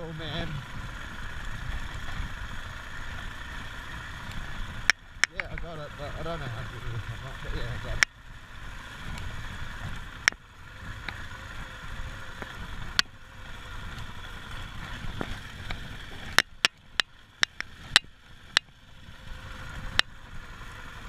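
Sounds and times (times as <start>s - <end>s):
motorcycle engine rumble: 0.0s - 21.0s
tyres on gravel: 0.0s - 21.0s.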